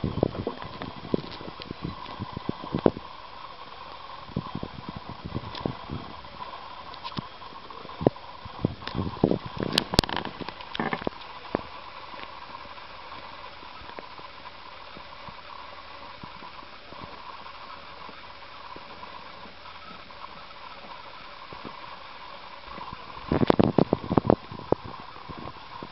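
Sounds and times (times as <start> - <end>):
steady hiss: 0.0 - 25.9.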